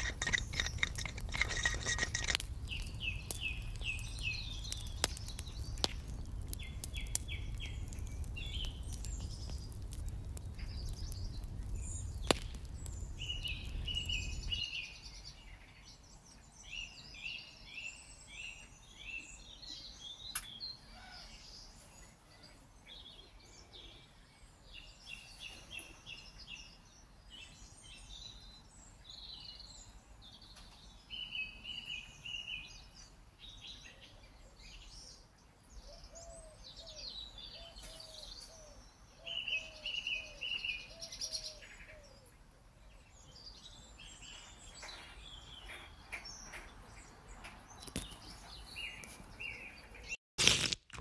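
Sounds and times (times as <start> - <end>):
small birds chirping: 0.0 - 50.2.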